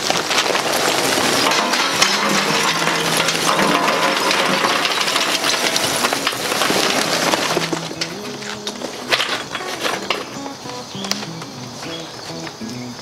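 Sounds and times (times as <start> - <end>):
charcoal clattering into metal hopper: 0.0 - 12.6.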